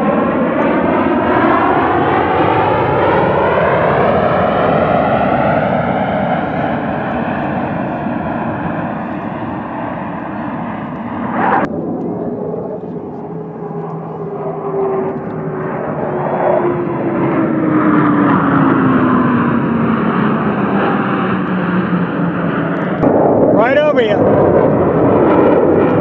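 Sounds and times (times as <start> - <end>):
airplane engine roar: 0.0 - 26.0.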